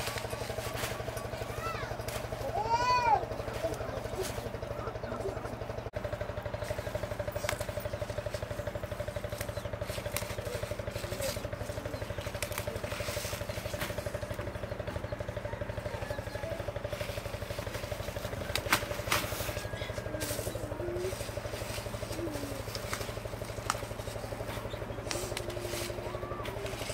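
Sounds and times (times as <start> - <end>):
leafy stems snapping: 0.0 - 4.6, 6.6 - 14.6, 17.0 - 26.9
engine hum with fast pulse: 0.0 - 26.9.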